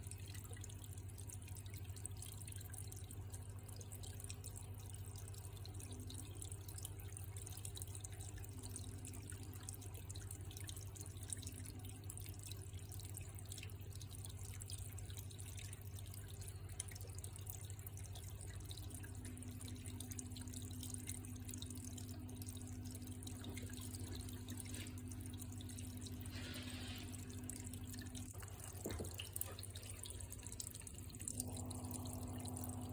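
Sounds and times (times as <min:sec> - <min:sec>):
low steady hum: 0:00.0 - 0:32.9
water dripping and trickling: 0:00.0 - 0:32.9.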